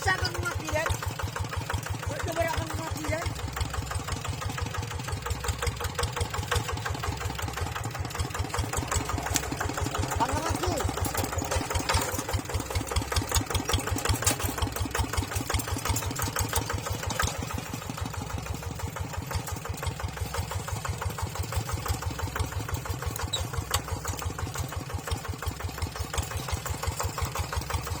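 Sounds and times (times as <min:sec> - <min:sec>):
tractor engine idling: 0:00.0 - 0:28.0.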